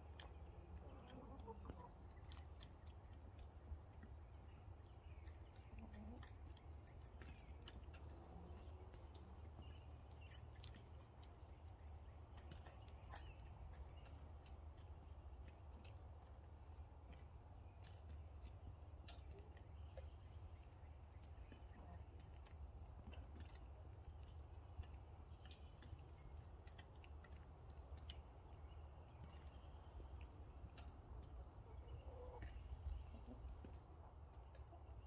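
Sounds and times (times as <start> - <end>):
hens tapping and scratching: 0.0 - 35.0
soft low clucks: 0.0 - 35.0.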